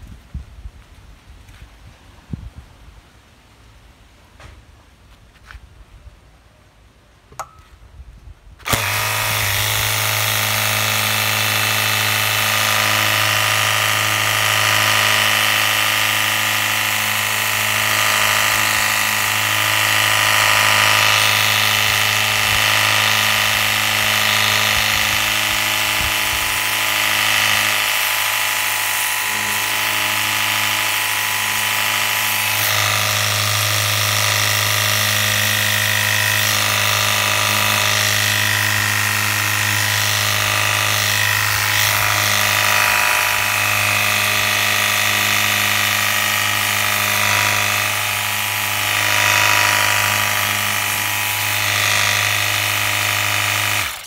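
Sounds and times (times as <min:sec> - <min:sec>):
water pump motor humming: 0:08.6 - 0:54.0.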